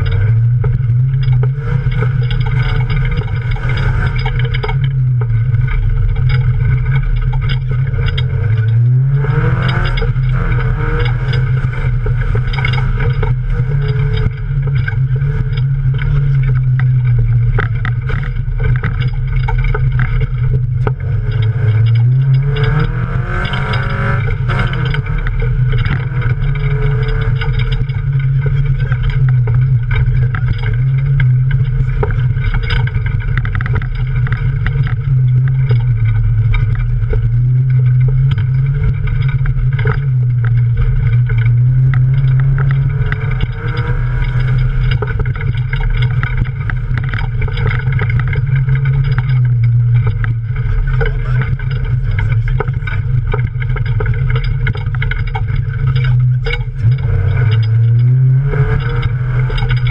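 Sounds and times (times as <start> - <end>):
car engine revving: 0.0 - 59.9
knocks and rattles: 0.0 - 59.9.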